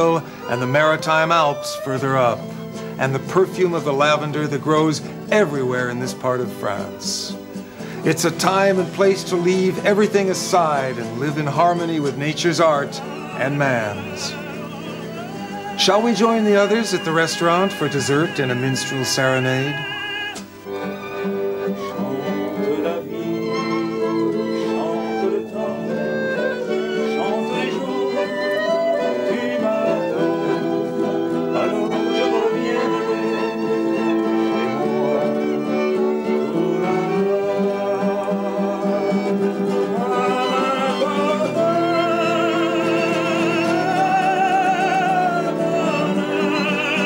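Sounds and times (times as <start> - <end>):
man singing with vibrato: 0.0 - 7.4, 8.0 - 47.0
acoustic guitar: 0.0 - 47.0
violin playing: 0.0 - 47.0.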